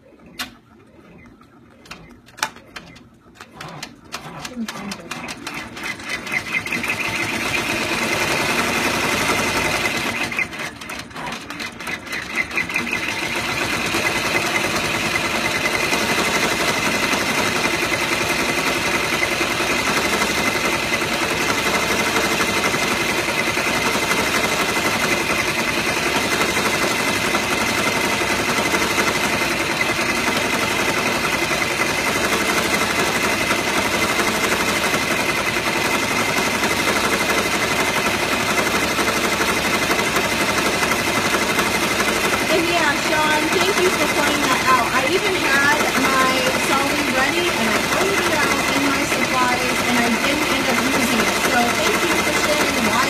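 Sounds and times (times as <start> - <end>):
embroidery machine rattling: 0.0 - 53.0.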